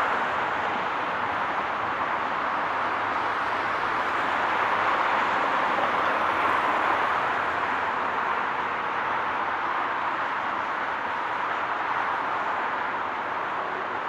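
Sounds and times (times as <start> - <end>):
highway traffic noise: 0.0 - 14.0.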